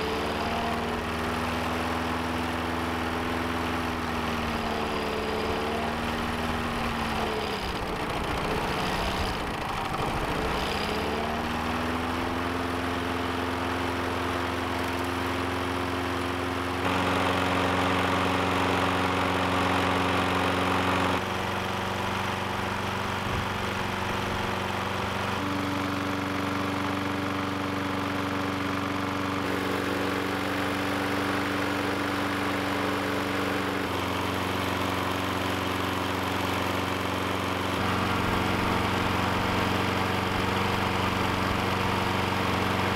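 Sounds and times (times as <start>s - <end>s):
small lawn mower engine running: 0.0s - 42.9s.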